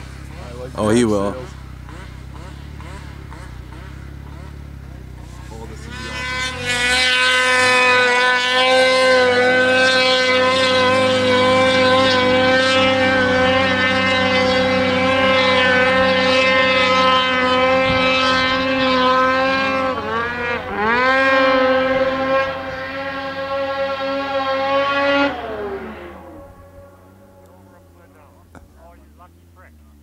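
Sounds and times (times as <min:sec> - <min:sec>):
snowmobile engine at high revs: 0:00.0 - 0:30.0.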